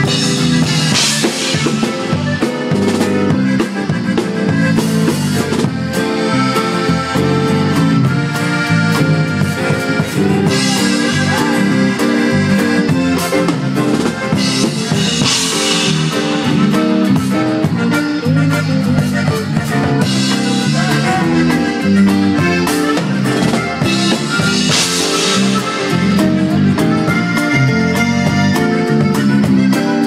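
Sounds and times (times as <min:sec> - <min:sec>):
accordion: 0:00.0 - 0:30.0
drum beat: 0:00.0 - 0:30.0
live band music: 0:00.0 - 0:30.0.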